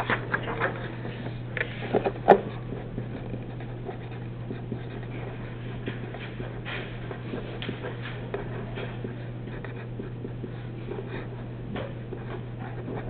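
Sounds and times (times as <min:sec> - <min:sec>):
steady low hum: 0:00.0 - 0:13.0
pen writing on paper: 0:01.8 - 0:11.4, 0:12.0 - 0:13.0.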